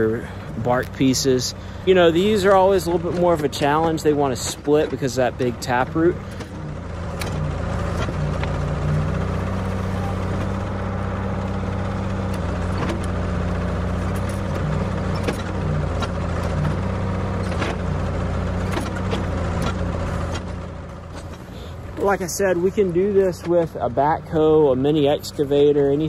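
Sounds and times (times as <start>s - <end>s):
backhoe engine under hydraulic load: 0.0s - 26.0s
sharp clicks and clunks: 2.3s - 10.8s, 11.4s - 23.9s.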